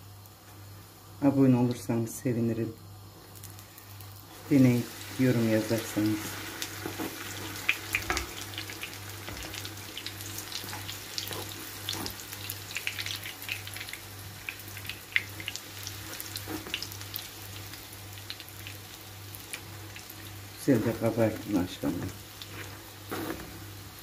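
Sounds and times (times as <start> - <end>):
dough sizzling in hot oil: 3.0 - 24.0.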